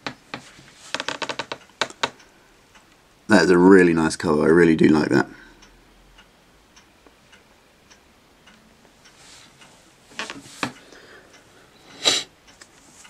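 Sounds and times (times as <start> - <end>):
faint clock ticking: 0.0 - 13.0.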